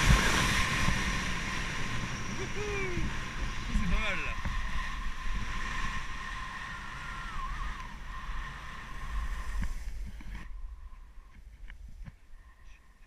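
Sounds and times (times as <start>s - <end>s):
wind buffeting microphone: 0.0s - 12.4s
faint steady whine: 0.0s - 13.0s.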